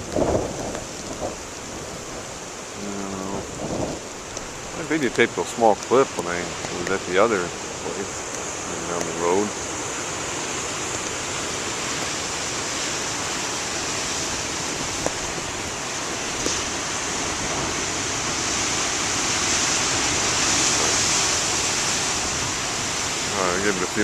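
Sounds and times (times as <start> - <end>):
heavy ocean surf roaring: 0.0 - 24.0.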